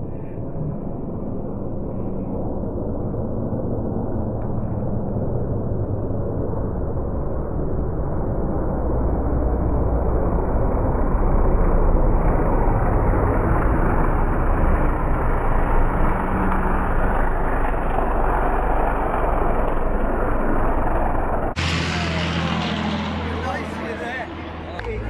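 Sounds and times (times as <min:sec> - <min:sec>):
aircraft engines droning overhead: 0:00.0 - 0:25.0
low engine hum: 0:00.0 - 0:25.0.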